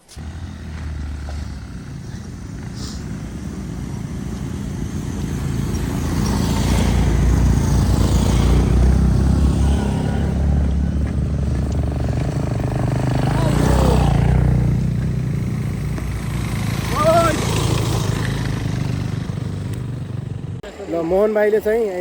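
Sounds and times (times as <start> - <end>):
motorcycle engine running: 0.1 - 21.2.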